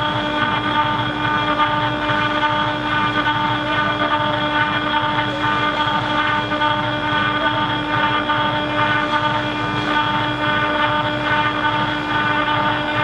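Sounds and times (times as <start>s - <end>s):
bit cutting metal: 0.0s - 13.0s
router spindle whine: 0.0s - 13.0s.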